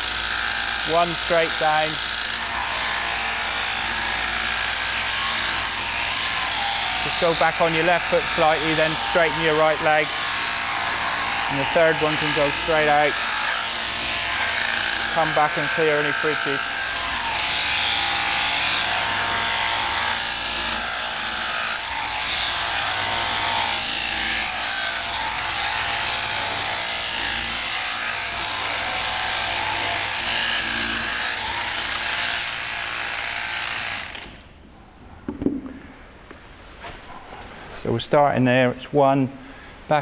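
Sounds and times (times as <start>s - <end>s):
shearing handpiece buzzing: 0.0s - 34.4s.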